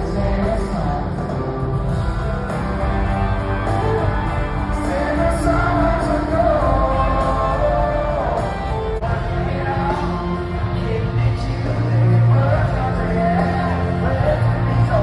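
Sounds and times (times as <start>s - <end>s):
live country band with singing: 0.0s - 15.0s.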